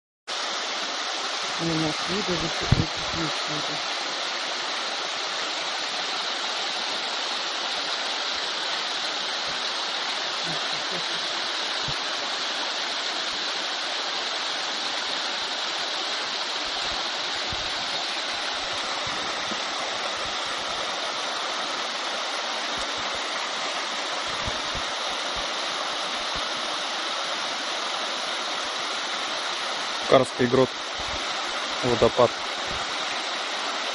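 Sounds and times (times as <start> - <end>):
waterfall splashing: 0.3 - 33.9.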